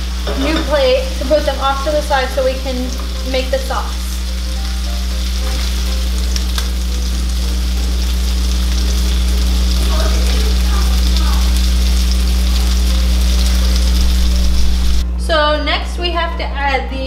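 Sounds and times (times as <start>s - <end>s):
chicken sizzling in a skillet: 0.0s - 15.0s
low hum: 0.0s - 15.7s.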